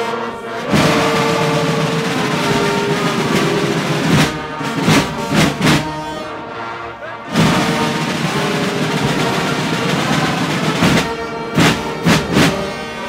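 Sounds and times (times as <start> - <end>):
drum strokes: 0.0 - 6.2, 7.3 - 13.0
carnival band with brass and drums: 0.0 - 13.0
large crowd noise: 0.0 - 13.0.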